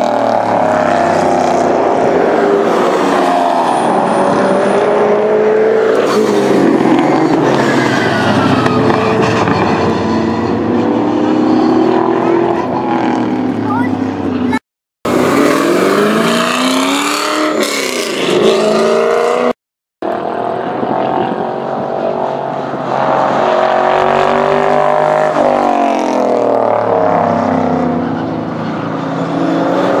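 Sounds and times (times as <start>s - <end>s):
race cars passing at speed: 0.0s - 14.5s, 15.1s - 30.0s.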